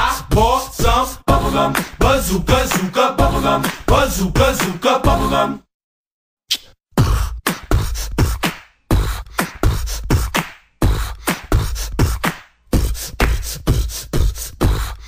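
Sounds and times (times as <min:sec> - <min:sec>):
song with heavy bass beat: 0:00.0 - 0:05.4, 0:07.0 - 0:15.0.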